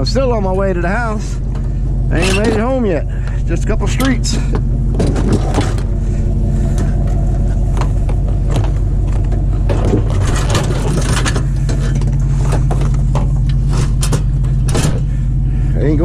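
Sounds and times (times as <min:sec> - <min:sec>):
rattles and knocks: 0:00.0 - 0:15.4
truck engine and road hum: 0:00.0 - 0:16.0.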